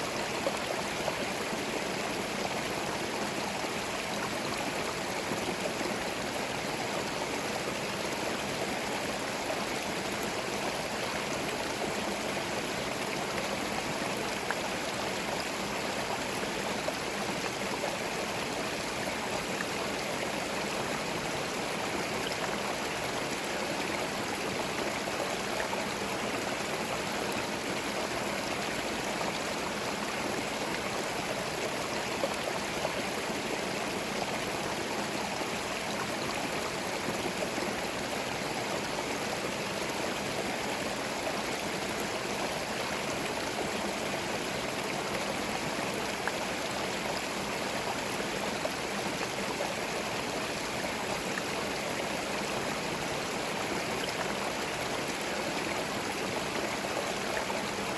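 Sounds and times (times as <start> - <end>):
stream babbling over stones: 0.0 - 57.9.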